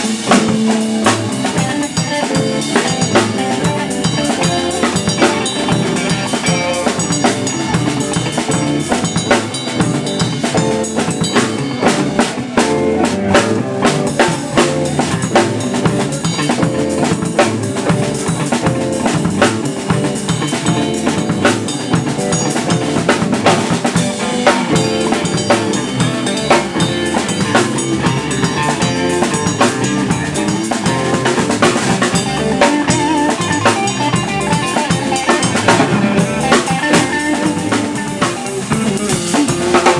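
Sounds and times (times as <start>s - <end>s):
drum kit playing: 0.0s - 39.9s
electric guitar chording: 0.0s - 39.9s.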